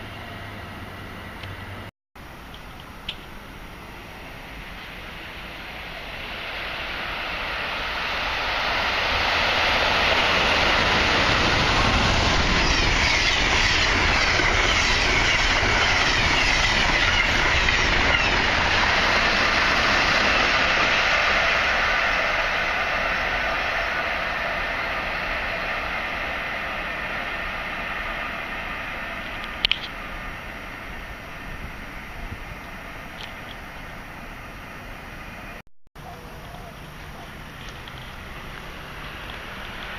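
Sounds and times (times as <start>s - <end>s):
train passing at speed: 0.0s - 39.9s.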